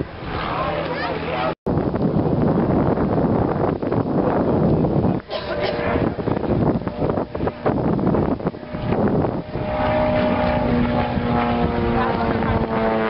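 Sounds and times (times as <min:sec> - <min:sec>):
airplane engine drone: 0:00.0 - 0:13.0
wind buffeting microphone: 0:00.0 - 0:13.0.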